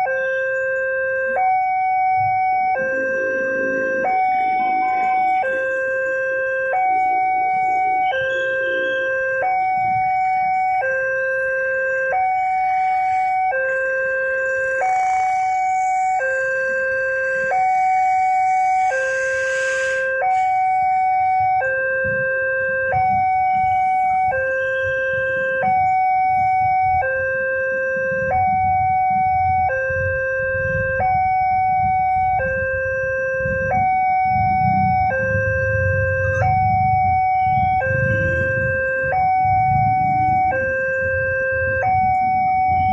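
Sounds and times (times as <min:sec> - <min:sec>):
low engine rumble: 0:00.0 - 0:42.9
two-tone level crossing alarm: 0:00.0 - 0:42.9.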